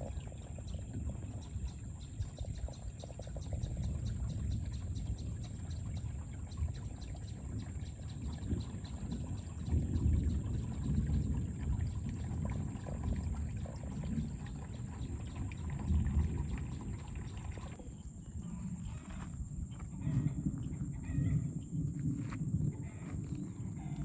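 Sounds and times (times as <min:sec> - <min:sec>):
water pouring and splashing: 0:00.0 - 0:20.5.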